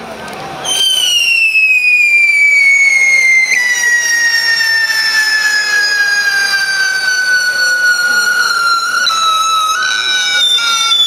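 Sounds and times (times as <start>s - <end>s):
firework whistle: 0.6s - 11.0s.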